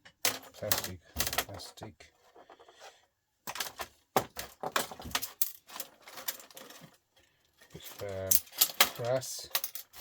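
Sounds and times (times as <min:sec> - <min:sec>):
small parts clicking and clinking: 0:00.0 - 0:01.8, 0:03.5 - 0:10.0.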